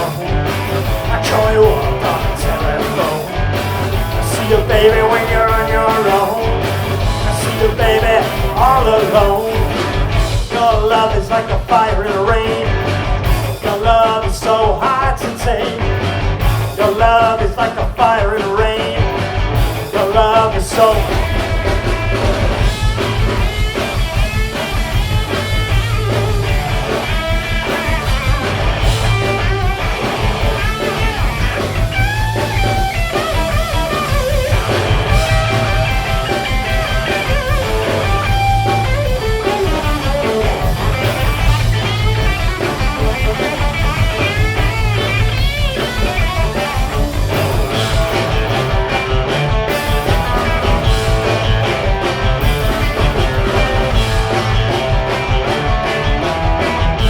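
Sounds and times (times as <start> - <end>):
electric guitar lead: 0.0 - 57.0
rock band playing: 0.0 - 57.0.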